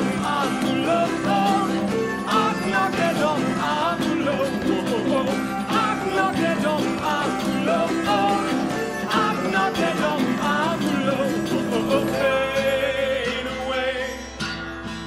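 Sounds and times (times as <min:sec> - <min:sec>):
person singing a song: 0:00.0 - 0:14.3
instrumental backing: 0:00.0 - 0:15.0.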